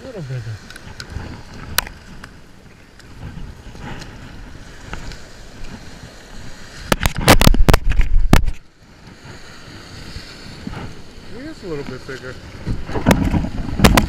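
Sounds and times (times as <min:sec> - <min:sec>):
low rumble of surf: 0:00.0 - 0:14.0
wind on the microphone: 0:00.4 - 0:14.0.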